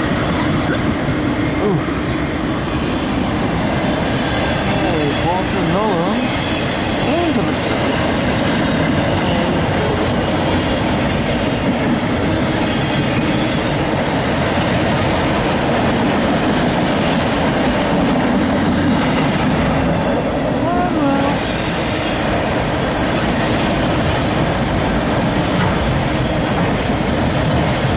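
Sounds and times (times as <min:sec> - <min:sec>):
train wheels rumbling on track: 0:00.0 - 0:27.9.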